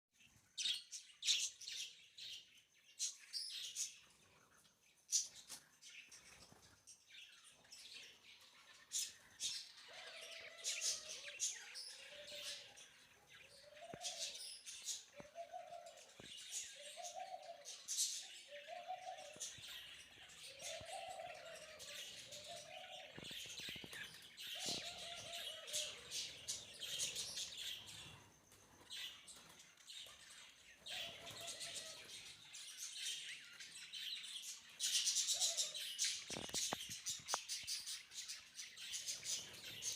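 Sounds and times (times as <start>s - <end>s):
budgerigars chirping and chattering: 0.6s - 28.3s, 28.9s - 39.9s.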